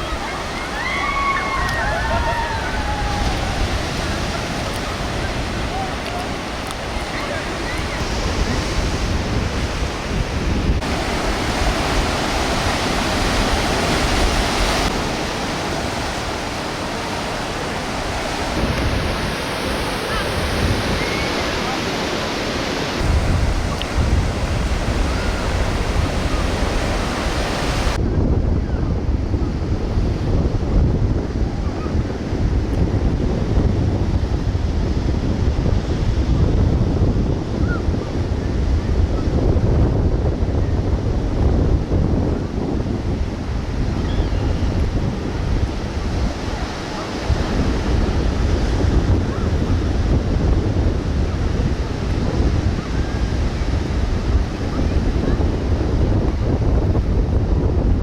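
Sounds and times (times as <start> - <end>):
surf breaking on beach: 0.0 - 58.0
wind buffeting microphone: 0.0 - 58.0.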